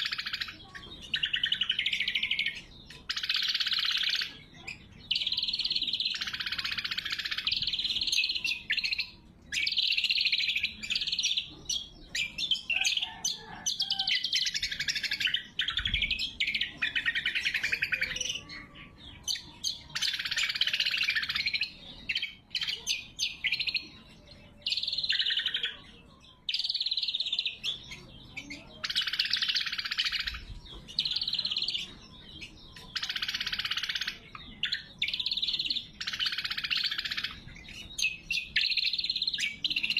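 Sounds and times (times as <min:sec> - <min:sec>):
bird singing high-pitched song: 0:00.0 - 0:39.9.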